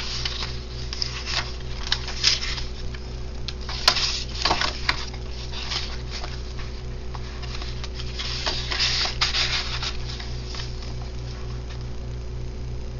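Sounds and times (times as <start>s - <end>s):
paper and card rustling: 0.0s - 11.9s
pulsing low hum: 0.0s - 12.9s.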